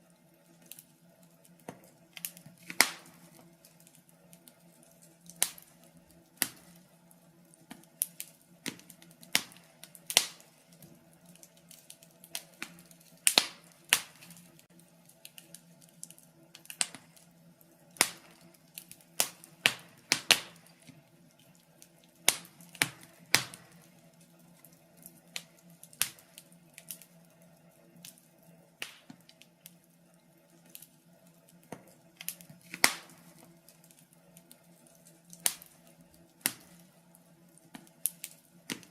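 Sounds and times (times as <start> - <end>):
faint steady hum: 0.0 - 38.9
wood fire crackling and popping: 0.0 - 38.9.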